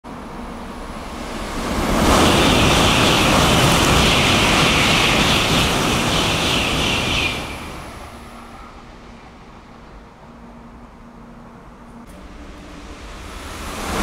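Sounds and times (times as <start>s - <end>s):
high-speed train rushing past: 0.0s - 14.0s.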